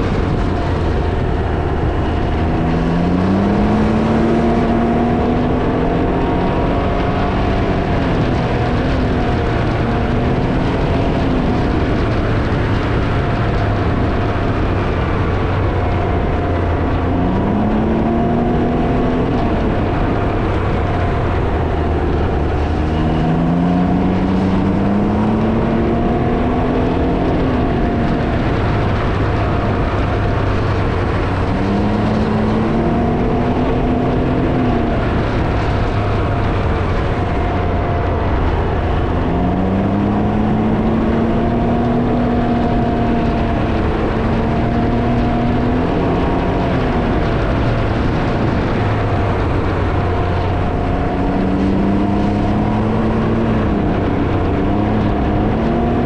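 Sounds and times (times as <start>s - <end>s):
motorcycle engine accelerating: 0.0s - 56.0s
wind buffeting microphone: 0.0s - 56.0s.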